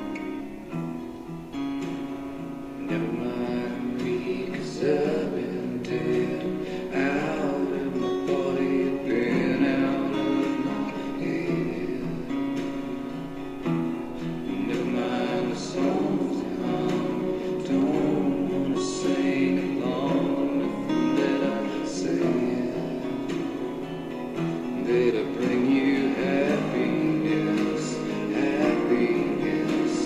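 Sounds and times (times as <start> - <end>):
song with singing voices: 0.0 - 30.0.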